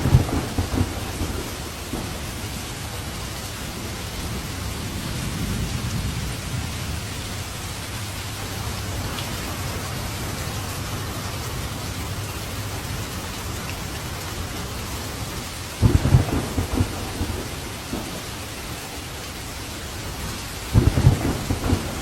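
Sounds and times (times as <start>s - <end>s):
thunder clap rumbling: 0.0s - 12.0s, 15.8s - 22.0s
heavy rain: 0.0s - 22.0s.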